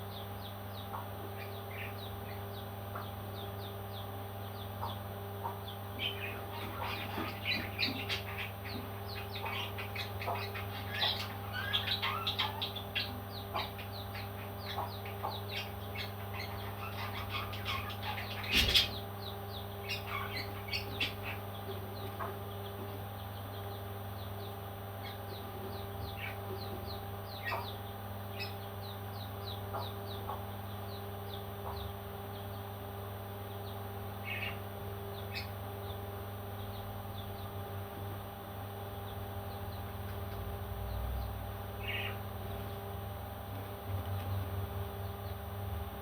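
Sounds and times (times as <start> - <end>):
parrot chicks chirping: 0.0 - 32.8, 33.4 - 37.8, 38.8 - 43.0
steady low hum: 0.0 - 46.0.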